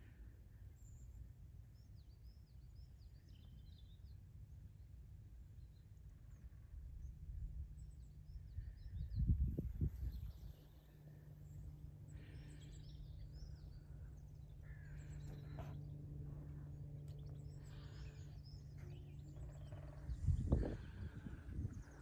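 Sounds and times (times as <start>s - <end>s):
small birds chirping: 0.0s - 4.9s, 5.5s - 22.0s
steady low hum: 0.0s - 22.0s.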